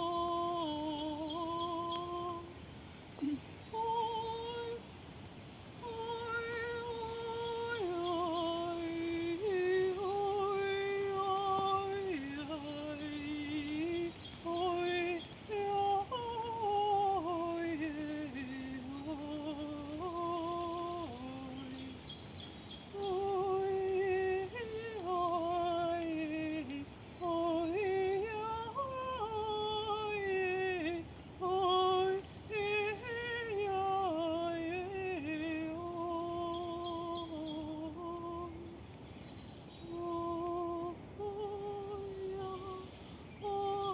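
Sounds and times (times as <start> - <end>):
woman singing wordless notes: 0.0 - 43.9.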